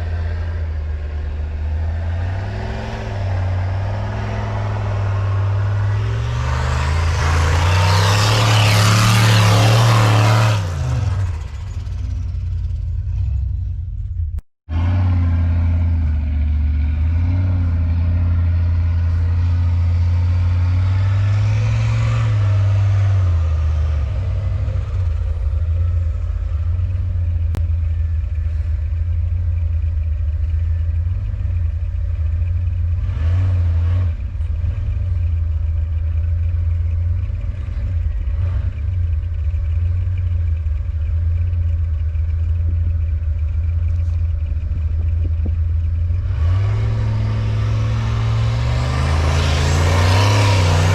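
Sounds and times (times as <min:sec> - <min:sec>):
truck engine driving: 0:00.0 - 0:50.9.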